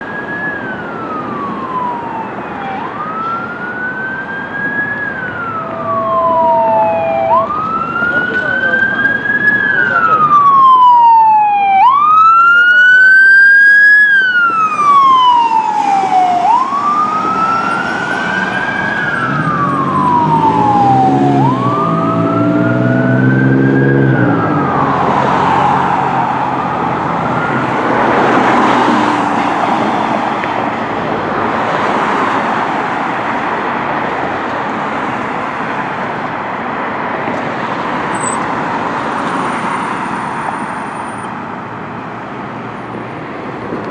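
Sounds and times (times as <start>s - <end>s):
fire engine siren wailing: 0.0s - 36.4s
engine and road noise: 0.0s - 43.9s.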